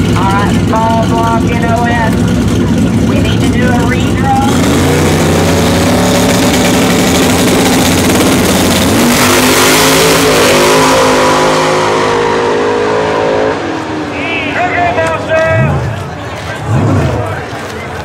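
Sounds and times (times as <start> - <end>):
drag cars accelerating hard: 0.0 - 18.0.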